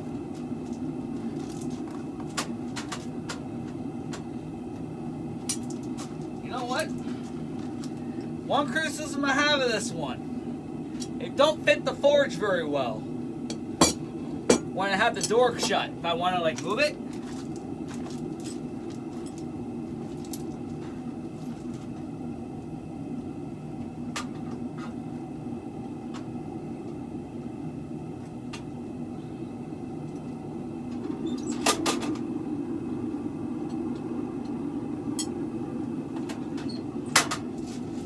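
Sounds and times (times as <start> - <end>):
forge burner rushing: 0.0 - 38.0.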